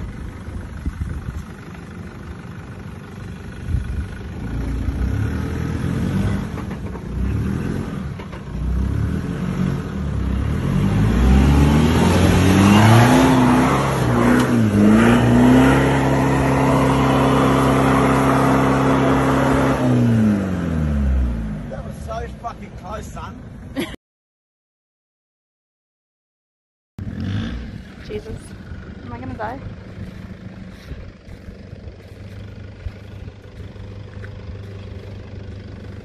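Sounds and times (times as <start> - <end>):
off-road vehicle engine revving: 0.0 - 23.3, 27.0 - 36.0.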